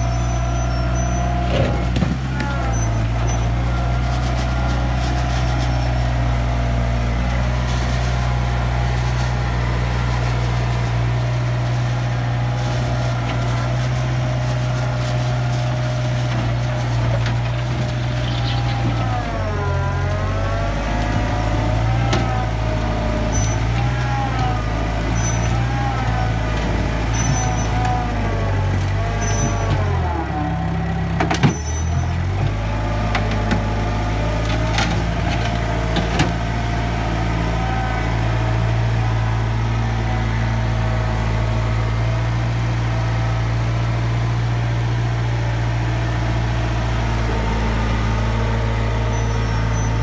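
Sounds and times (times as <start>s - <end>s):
diesel engine running: 0.0s - 50.0s
hydraulic whine: 0.0s - 50.0s.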